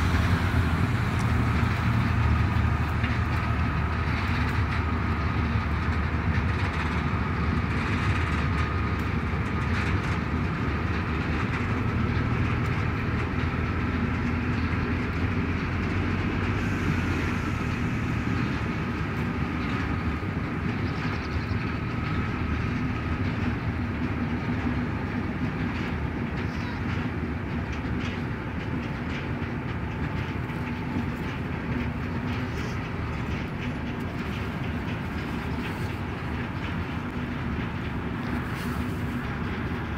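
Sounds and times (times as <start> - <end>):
diesel engine drone: 0.0 - 39.9
train wheels clattering on rails: 0.0 - 39.9.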